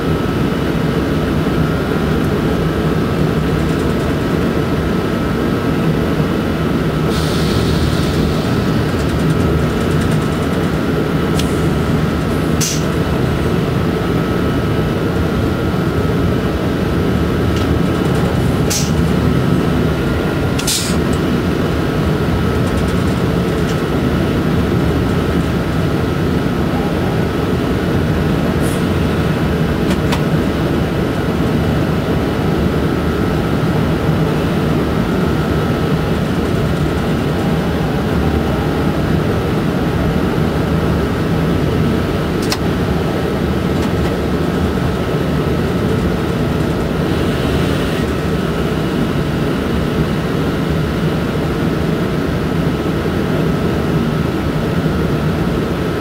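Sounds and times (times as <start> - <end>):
thin steady whine: 0.0 - 56.0
wheels rumbling on rail: 0.0 - 56.0.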